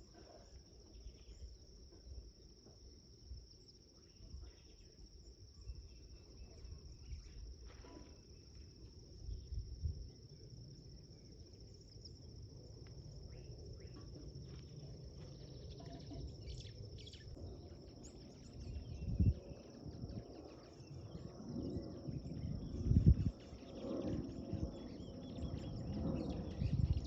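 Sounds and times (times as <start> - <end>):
insect trill: 0.4 - 27.0.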